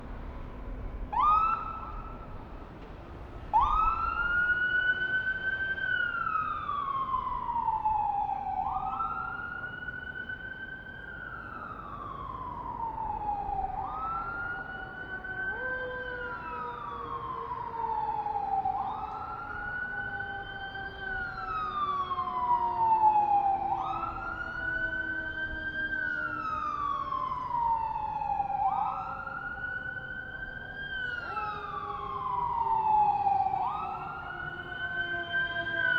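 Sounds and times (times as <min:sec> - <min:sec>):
fire engine siren wailing: 0:00.0 - 0:35.9
low city background rumble: 0:00.0 - 0:35.9
steady siren tone sliding down: 0:03.6 - 0:35.9.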